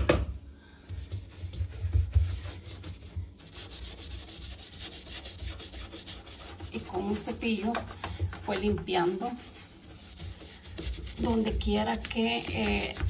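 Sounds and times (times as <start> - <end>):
brush scrubbing rubber seal: 1.0 - 13.0.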